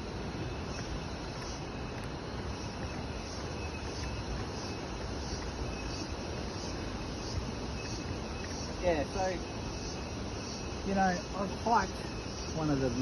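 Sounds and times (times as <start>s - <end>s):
chorus of insects: 0.0s - 13.0s
constant rushing hiss: 0.0s - 13.0s.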